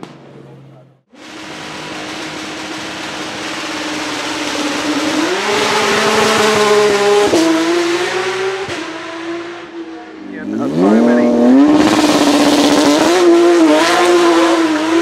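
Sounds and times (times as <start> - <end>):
race car accelerating hard: 1.2 - 15.0.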